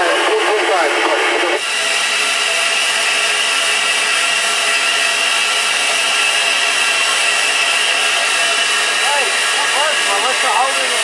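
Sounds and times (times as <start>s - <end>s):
steam hissing: 1.6s - 11.0s.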